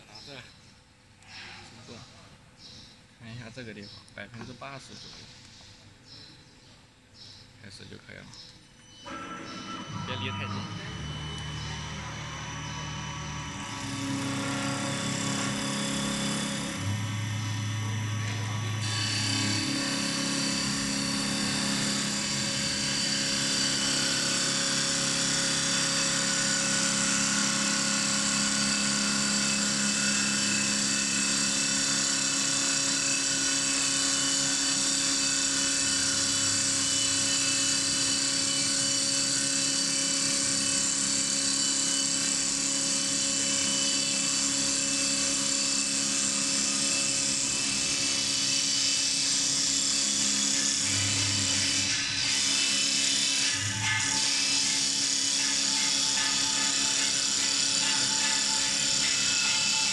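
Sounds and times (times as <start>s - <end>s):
wood lathe motor hum: 9.1s - 59.9s.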